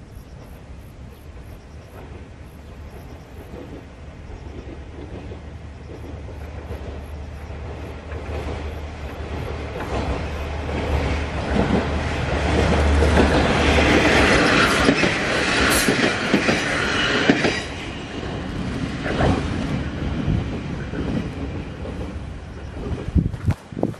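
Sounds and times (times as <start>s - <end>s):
wheels rumbling on rails: 0.0s - 23.9s
wheels clicking over rail joints: 1.8s - 23.9s.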